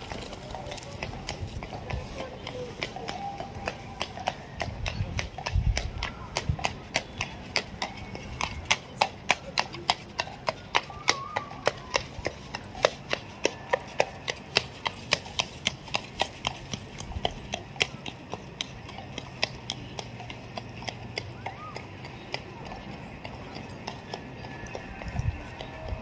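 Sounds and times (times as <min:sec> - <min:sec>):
horse hooves clip-clopping on pavement: 0:00.0 - 0:26.0.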